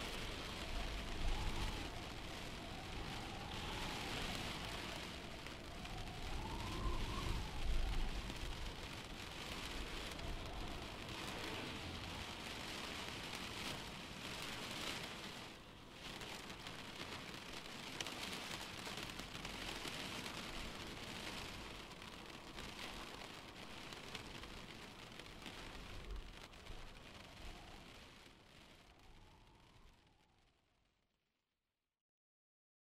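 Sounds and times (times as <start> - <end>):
steady rain falling: 0.0 - 30.6.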